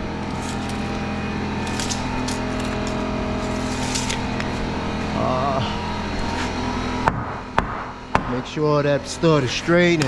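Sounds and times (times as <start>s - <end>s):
air compressor hum: 0.0s - 10.0s.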